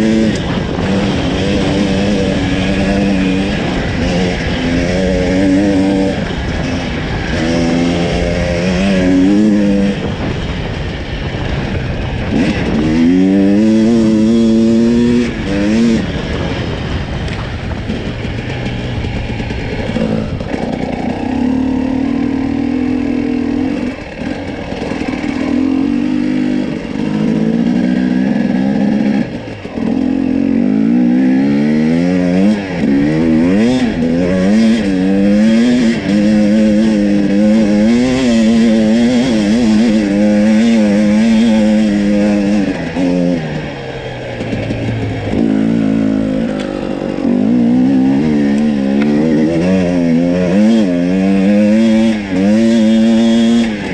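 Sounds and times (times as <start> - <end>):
two-stroke engine revving: 0.0 - 53.9.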